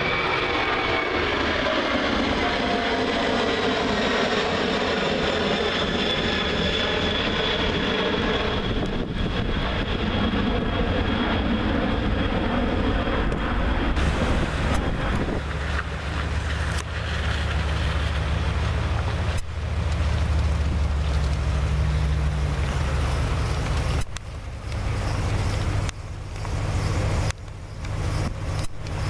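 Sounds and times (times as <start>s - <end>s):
jet engines at takeoff: 0.0s - 29.0s.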